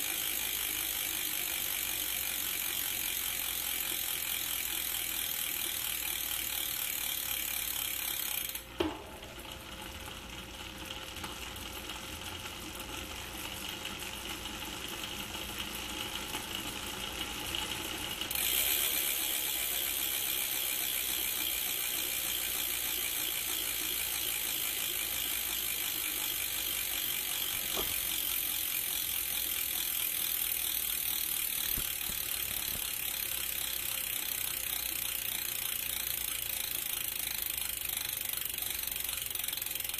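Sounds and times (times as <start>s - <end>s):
bike hub freewheeling ratchet buzz: 0.0s - 8.8s, 9.4s - 39.9s.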